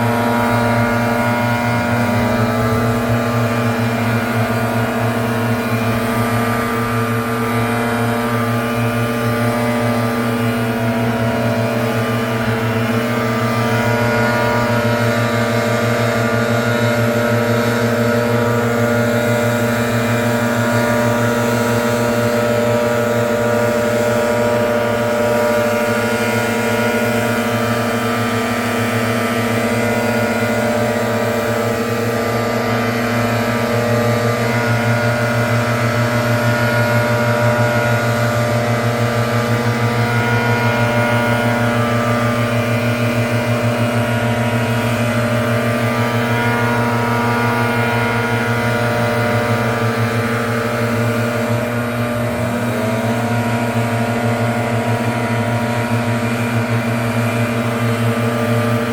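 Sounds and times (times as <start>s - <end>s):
leaf blower engine drone: 0.0s - 58.9s.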